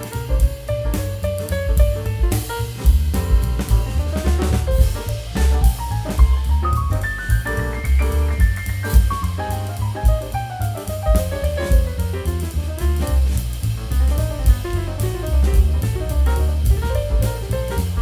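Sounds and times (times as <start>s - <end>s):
drum kit: 0.0s - 18.0s
walking bass line: 0.0s - 18.0s.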